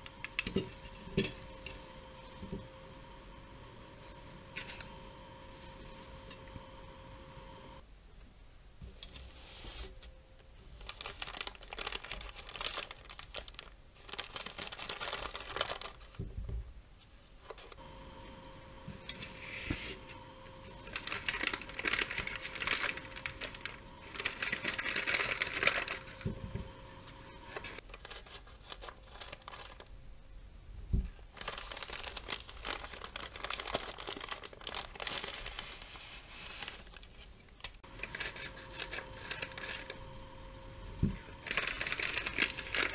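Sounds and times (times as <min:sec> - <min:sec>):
paper wrapper crinkling: 0:00.0 - 0:07.8, 0:10.7 - 0:16.2, 0:17.4 - 0:29.9, 0:31.3 - 0:42.9.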